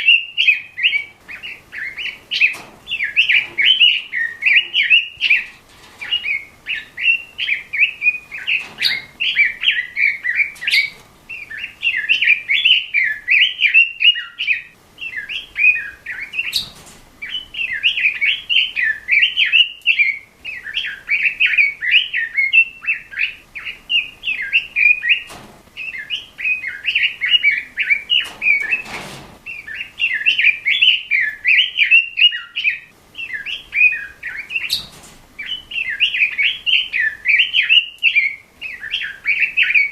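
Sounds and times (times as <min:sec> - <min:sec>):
bird singing warbling phrases: 0:00.0 - 0:39.9.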